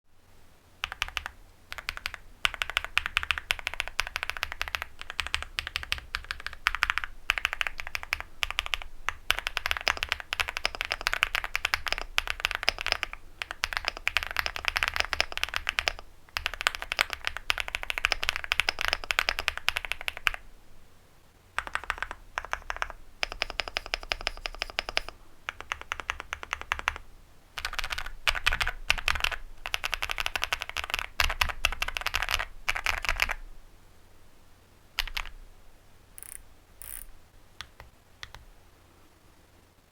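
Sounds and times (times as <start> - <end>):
mechanical keyboard typing: 0.8 - 20.4, 21.6 - 27.0, 27.6 - 33.4, 35.0 - 35.4, 36.2 - 38.5.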